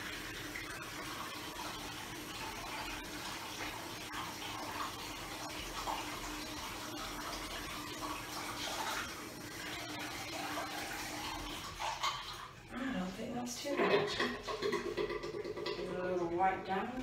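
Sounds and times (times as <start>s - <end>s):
tap water running into basin: 0.0s - 17.0s.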